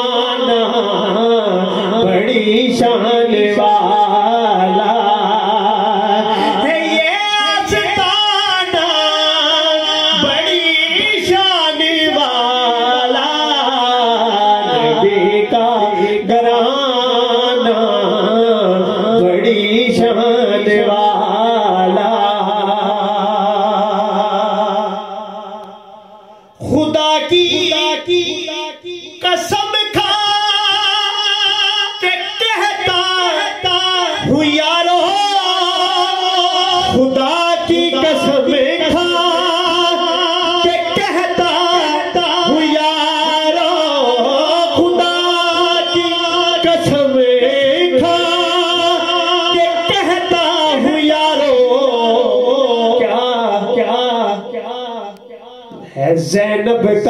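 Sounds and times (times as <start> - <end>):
man singing into a microphone: 0.0 - 57.0.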